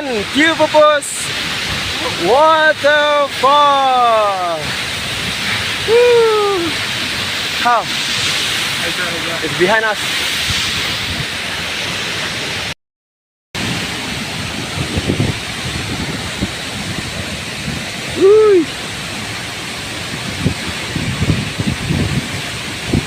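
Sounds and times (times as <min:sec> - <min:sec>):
waterfall rushing: 0:00.0 - 0:12.8, 0:13.6 - 0:23.0.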